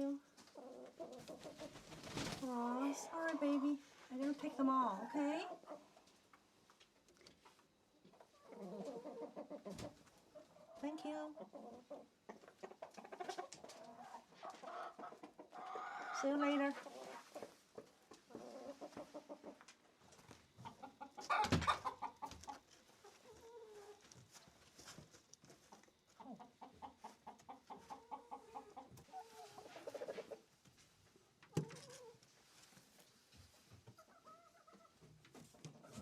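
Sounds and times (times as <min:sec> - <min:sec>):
hens clucking: 0:00.0 - 0:06.3, 0:07.3 - 0:30.6, 0:31.4 - 0:36.0.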